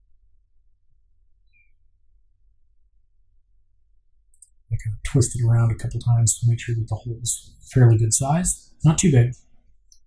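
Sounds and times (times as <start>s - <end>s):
faint low room hum: 0.0s - 10.0s.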